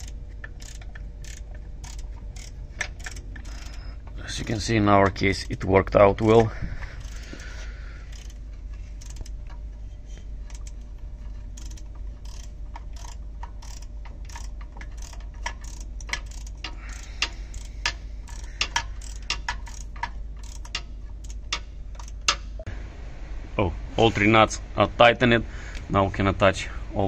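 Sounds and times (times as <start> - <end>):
ratchet wrench clicking: 0.0 - 22.6.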